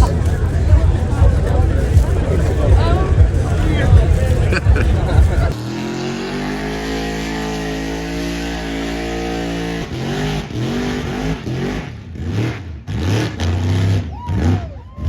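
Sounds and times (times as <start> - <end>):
truck engine revving: 0.0 - 14.8.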